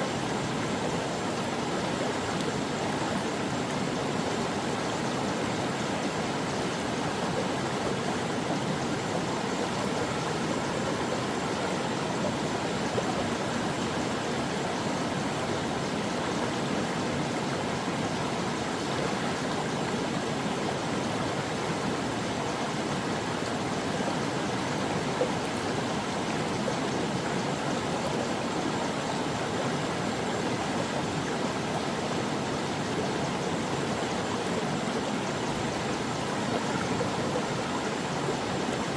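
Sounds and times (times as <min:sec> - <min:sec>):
stream water flowing over rocks: 0:00.0 - 0:38.9.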